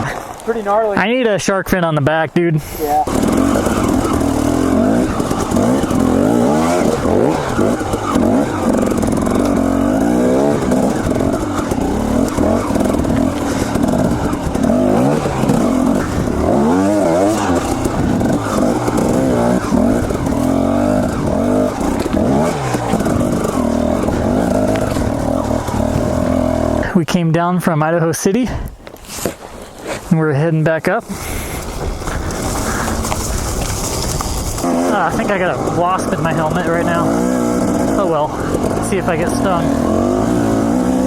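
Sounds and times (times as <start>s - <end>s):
dirt bike engine revving: 2.6s - 26.9s, 31.2s - 41.0s.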